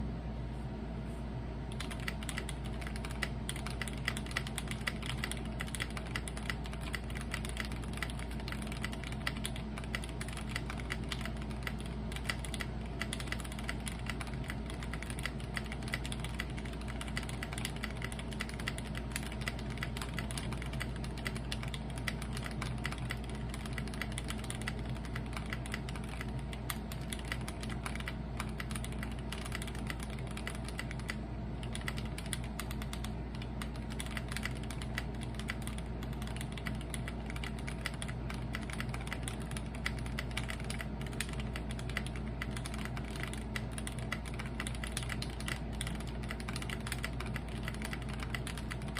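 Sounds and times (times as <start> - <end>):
mechanical keyboard typing: 1.7 - 48.9.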